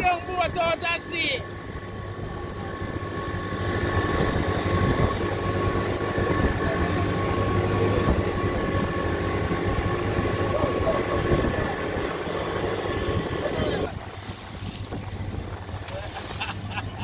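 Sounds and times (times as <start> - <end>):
motorboat engine droning: 0.0 - 17.0
wind and water rushing: 0.0 - 17.0.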